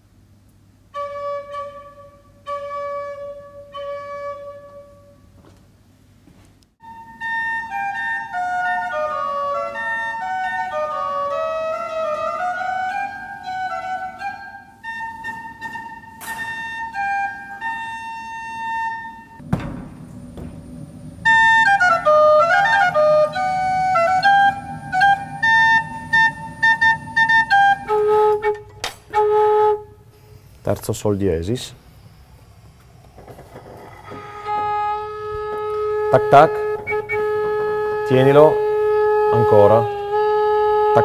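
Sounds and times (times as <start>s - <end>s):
pipe organ playing: 6.8s - 19.5s, 20.2s - 41.0s.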